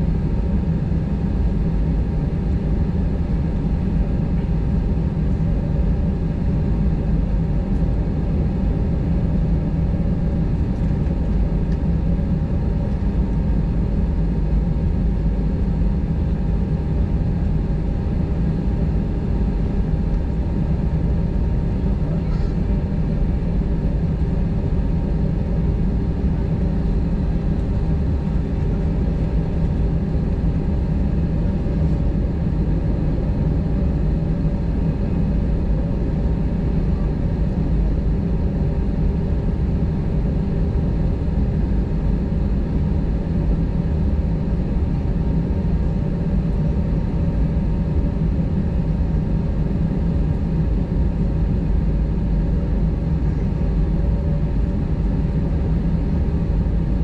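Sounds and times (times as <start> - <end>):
faint steady hum: 0.0 - 57.0
jet engines rumbling at idle: 0.0 - 57.0.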